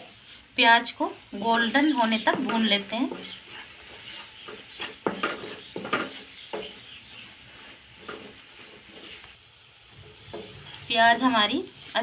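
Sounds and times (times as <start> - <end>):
onions sizzling in oil: 0.0 - 12.0
spatula scraping a pan: 1.6 - 12.0.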